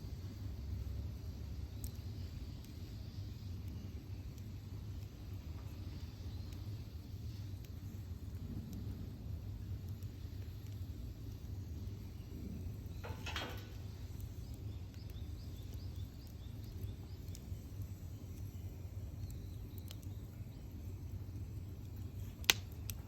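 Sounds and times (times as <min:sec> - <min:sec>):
wood fire rumbling and crackling: 0:00.0 - 0:23.0.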